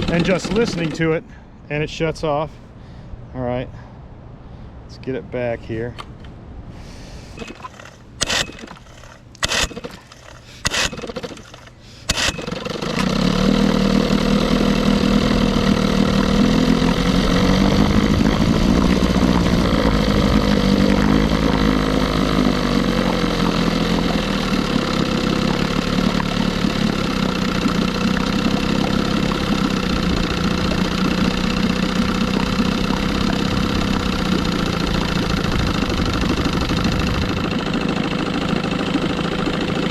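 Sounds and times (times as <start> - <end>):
outboard motor running: 0.0 - 1.2, 7.3 - 39.9
pull-starter pulls: 0.0 - 1.2, 7.3 - 39.9.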